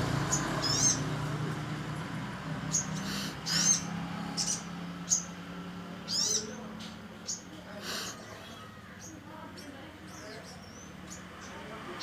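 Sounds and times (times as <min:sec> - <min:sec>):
bird chirping and twittering: 0:00.0 - 0:01.8, 0:02.4 - 0:12.0.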